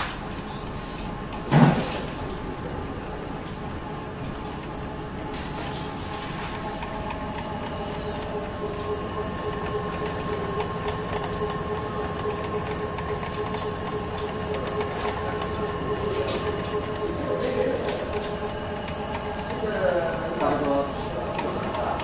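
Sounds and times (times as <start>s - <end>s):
slitter machine motor humming: 0.0s - 22.0s.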